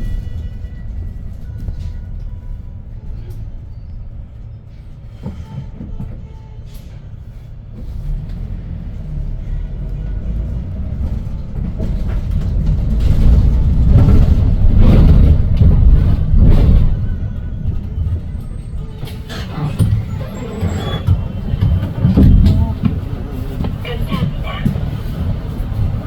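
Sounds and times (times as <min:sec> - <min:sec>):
bus body and tyres rumbling: 0:00.0 - 0:26.0
bus engine: 0:00.0 - 0:26.0.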